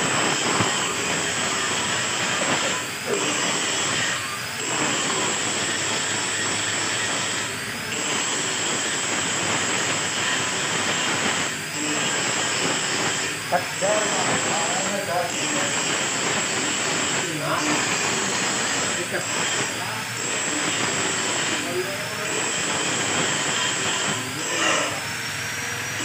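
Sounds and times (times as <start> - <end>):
angle grinder on steel: 0.0 - 26.0.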